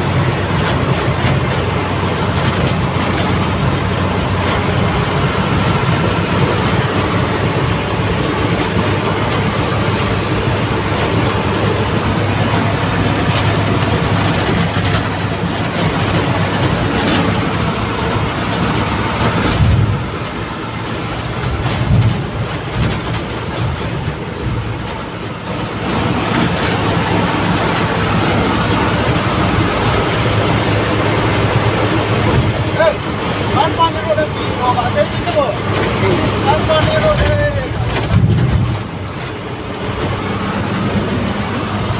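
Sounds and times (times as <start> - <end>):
vehicle engine and road noise: 0.0 - 41.9
body rattles: 0.3 - 41.9.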